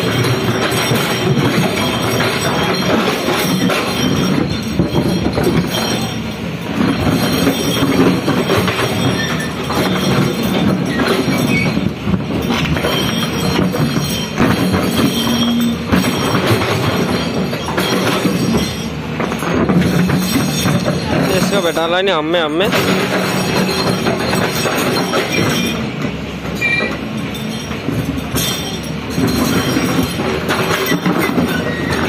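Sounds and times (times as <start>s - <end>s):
excavator diesel engine running: 0.0s - 32.0s
metal squealing and clanking: 0.0s - 32.0s.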